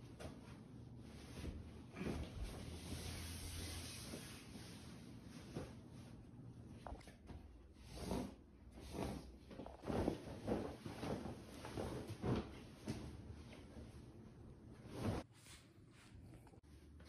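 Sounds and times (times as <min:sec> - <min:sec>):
bed sheet rustling and swishing: 0:00.1 - 0:06.4, 0:07.7 - 0:14.1, 0:14.7 - 0:16.0.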